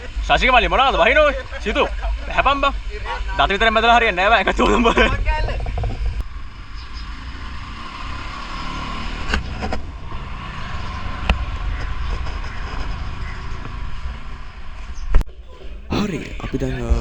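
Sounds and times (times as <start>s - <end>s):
vehicle engine and road rumble: 0.0s - 15.2s.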